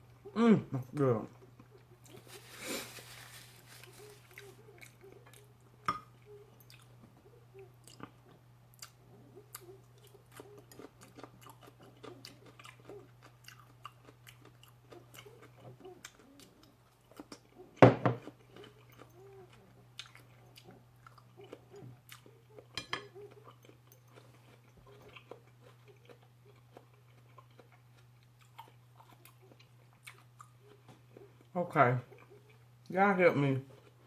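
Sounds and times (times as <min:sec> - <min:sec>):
person chewing food: 0:01.4 - 0:32.9, 0:33.7 - 0:34.0.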